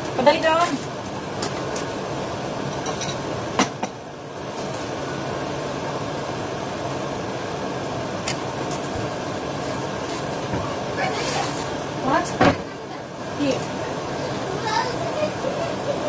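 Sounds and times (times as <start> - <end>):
ventilation fan hum: 0.0 - 16.0.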